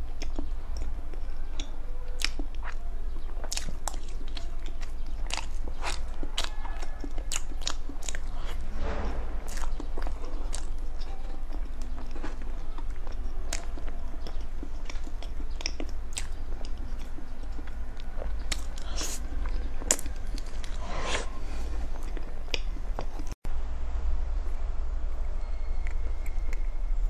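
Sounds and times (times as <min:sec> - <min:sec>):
wet chewing and lip smacks: 0:00.0 - 0:08.7, 0:09.5 - 0:20.8, 0:21.7 - 0:23.4
steady low hum: 0:00.0 - 0:27.0.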